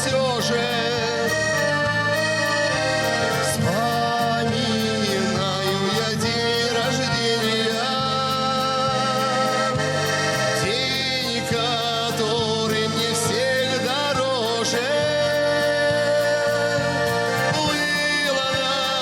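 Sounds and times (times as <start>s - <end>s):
accordion folk music: 0.0s - 19.0s.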